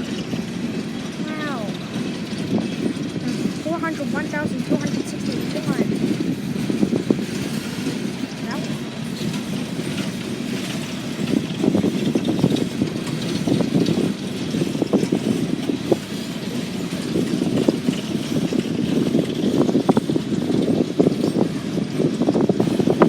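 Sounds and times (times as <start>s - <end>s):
train cars clanking: 0.0s - 23.0s
train wheels rumbling on rail: 0.0s - 23.0s.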